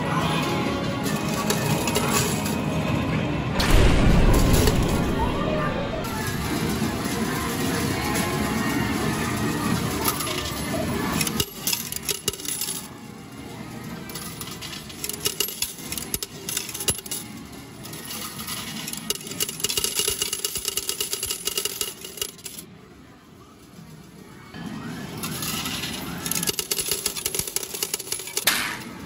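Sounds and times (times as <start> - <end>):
arcade noise: 0.0 - 29.0.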